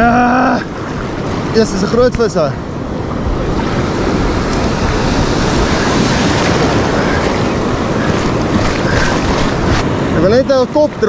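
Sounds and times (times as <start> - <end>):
ocean surf breaking: 0.0 - 11.0
wind buffeting microphone: 0.7 - 11.0.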